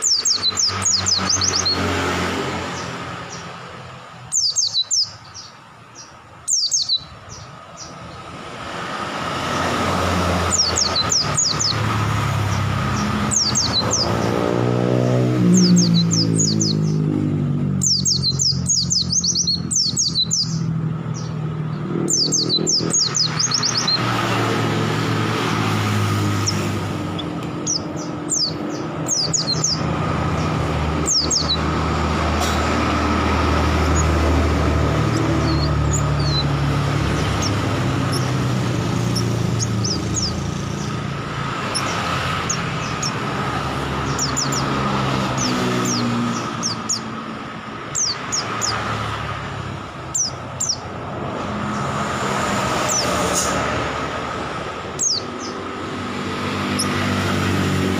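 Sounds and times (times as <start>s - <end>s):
birds chirping: 0.0s - 57.9s
road traffic rumble: 0.0s - 57.9s.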